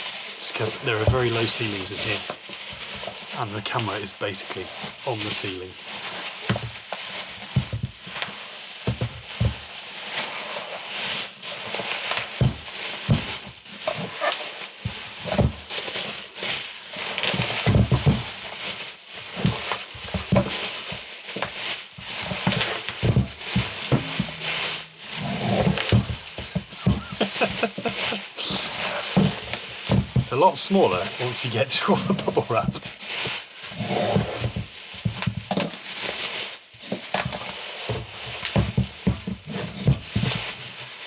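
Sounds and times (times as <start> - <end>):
bubble wrap rustling and crackling: 0.0 - 41.0.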